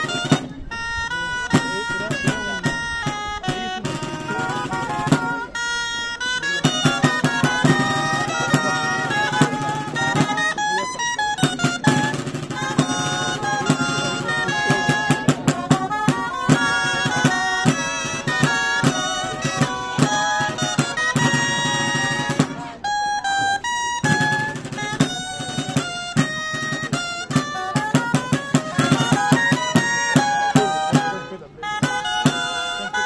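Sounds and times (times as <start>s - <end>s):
steady drum beat: 0.0s - 33.0s.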